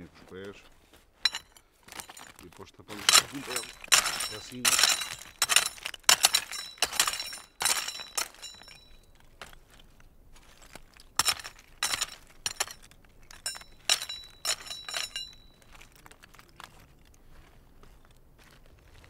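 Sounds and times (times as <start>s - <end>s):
stones clinking and grating: 1.2s - 18.2s.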